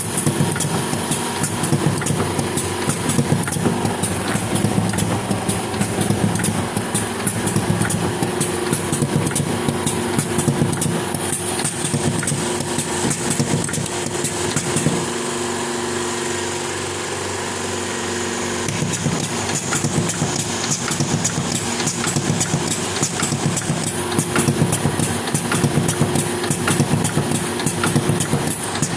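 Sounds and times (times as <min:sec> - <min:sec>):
small engine running roughly: 0:00.0 - 0:28.9.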